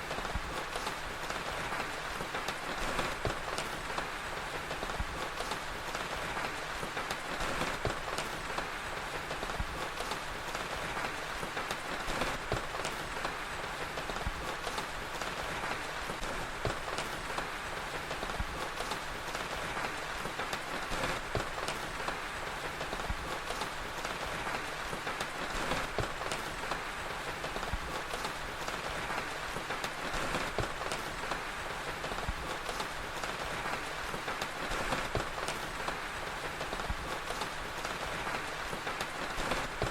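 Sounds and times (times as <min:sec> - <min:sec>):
steady rain falling: 0:00.0 - 0:39.9
wood fire popping and crackling: 0:00.0 - 0:39.9.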